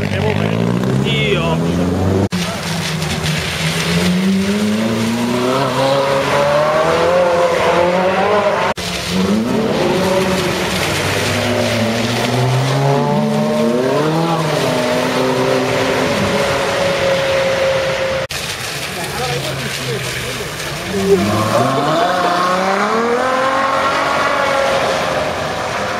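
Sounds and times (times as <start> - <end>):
sports car engines revving: 0.0 - 18.3, 19.0 - 25.9.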